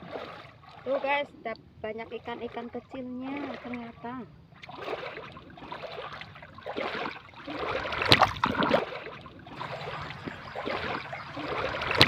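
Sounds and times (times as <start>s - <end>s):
stream water splashing and trickling: 0.0s - 12.0s.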